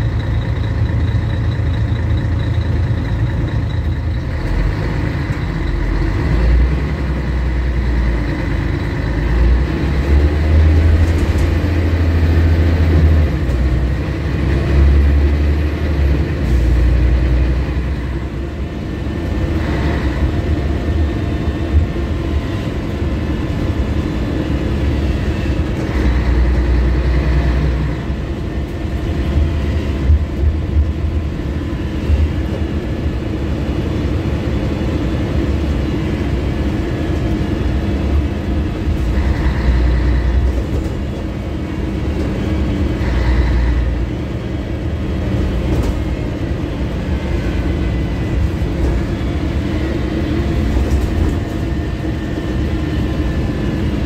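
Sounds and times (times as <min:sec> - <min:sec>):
bus diesel engine rumble: 0:00.0 - 0:54.0
road and body noise: 0:00.0 - 0:54.0.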